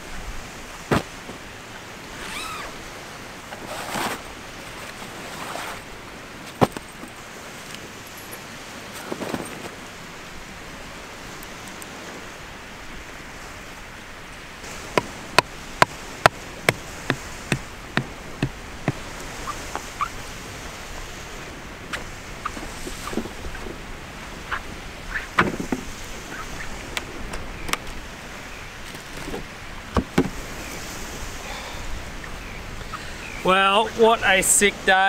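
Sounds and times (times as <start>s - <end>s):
small waves washing on shore: 0.0s - 35.0s
wind hiss: 0.0s - 35.0s.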